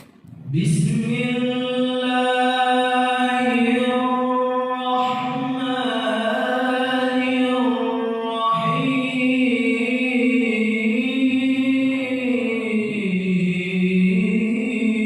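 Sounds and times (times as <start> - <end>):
man chanting recitation: 0.3 - 15.0.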